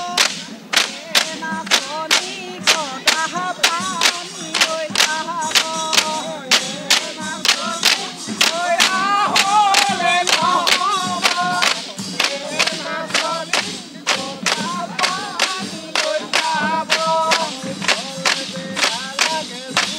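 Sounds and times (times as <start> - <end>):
bamboo sticks clacking: 0.0 - 19.9
men singing together: 0.0 - 19.9.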